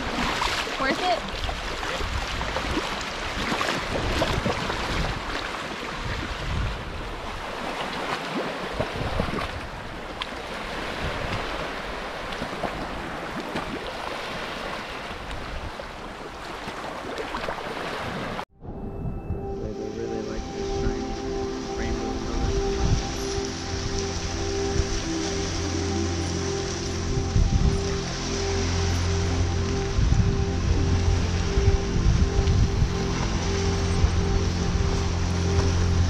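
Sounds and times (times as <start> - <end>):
ocean waves washing in shallows: 0.0 - 36.0
wind rumbling on microphone: 0.0 - 36.0.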